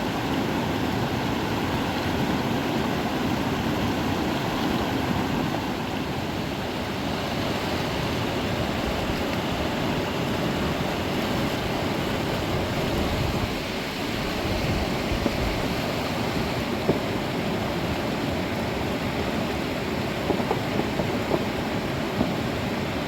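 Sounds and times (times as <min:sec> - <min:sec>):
flowing river water: 0:00.0 - 0:23.0.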